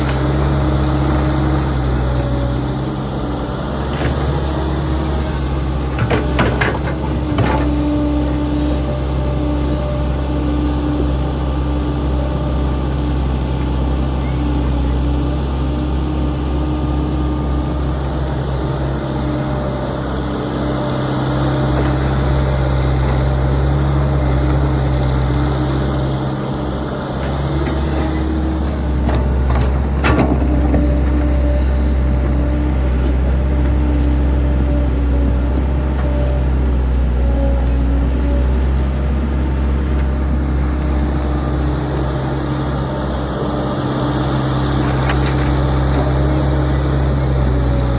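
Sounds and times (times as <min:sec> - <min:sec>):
drilling rig engine running: 0:00.0 - 0:47.9.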